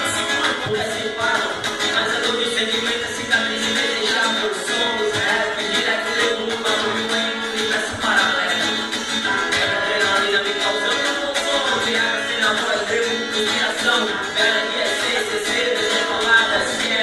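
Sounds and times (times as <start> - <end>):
live rap song: 0.0 - 17.0
plucked guitar: 0.0 - 17.0.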